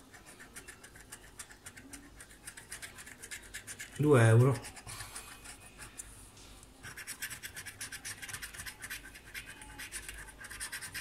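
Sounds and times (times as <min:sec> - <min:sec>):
scratching a scratch card: 0:00.0 - 0:06.1, 0:06.8 - 0:11.0.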